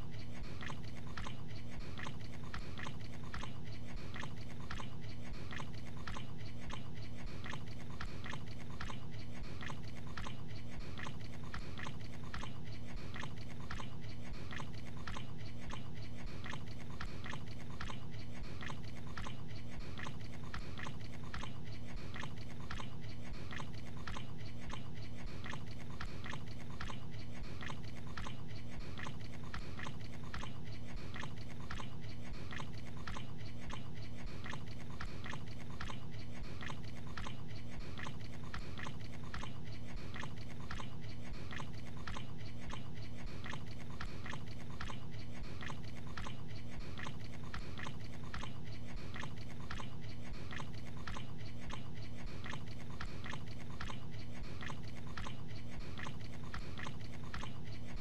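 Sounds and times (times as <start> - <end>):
man chewing wetly: 0.0 - 58.0.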